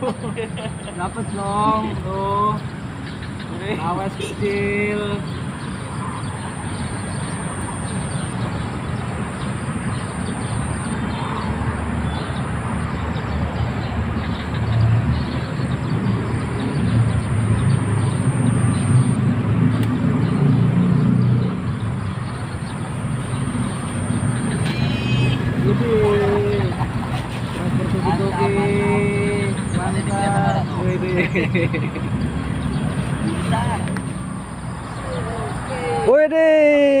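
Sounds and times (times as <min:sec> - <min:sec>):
traffic rumble: 0:00.0 - 0:37.0.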